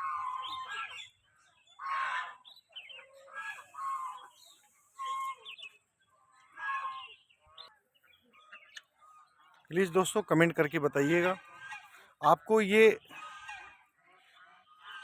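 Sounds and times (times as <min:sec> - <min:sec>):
fowl harsh calls: 0:00.0 - 0:05.8, 0:06.4 - 0:07.7, 0:08.5 - 0:15.0.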